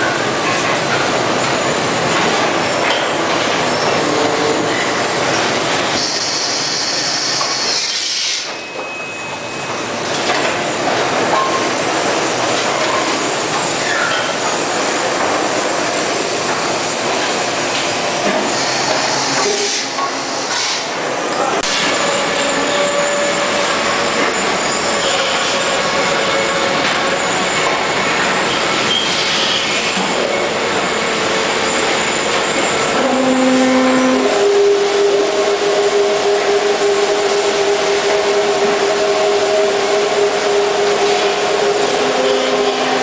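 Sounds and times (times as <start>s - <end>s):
production line machinery running: 0.0s - 43.0s.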